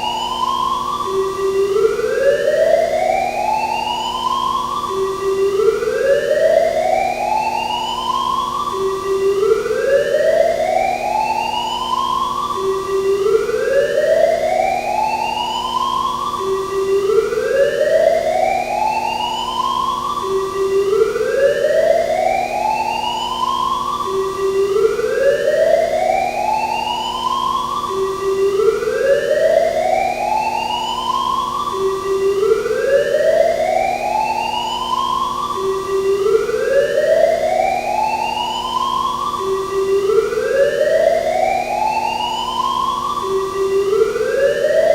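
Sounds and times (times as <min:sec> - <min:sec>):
fire alarm whoop tone: 0:00.0 - 0:44.9.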